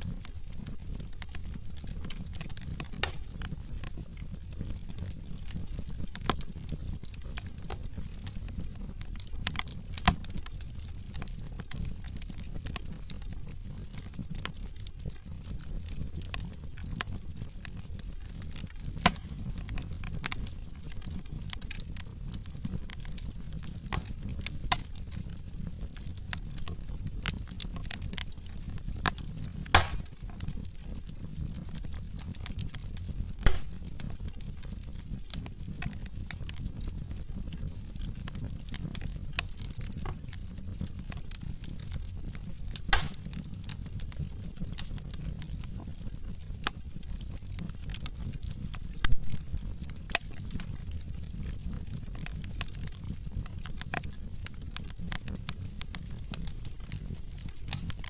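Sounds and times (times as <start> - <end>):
wood fire crackling: 0.0 - 58.0
sharp pops of burning logs: 0.2 - 58.0.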